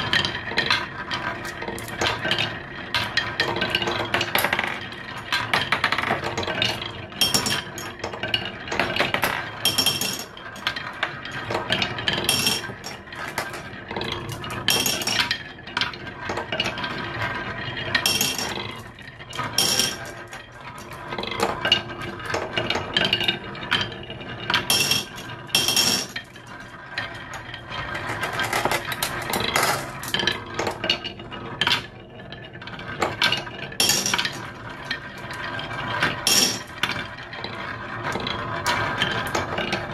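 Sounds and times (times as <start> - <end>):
marbles clinking against wood: 0.0 - 17.0, 17.8 - 37.6
marbles rolling on wood: 0.0 - 39.9.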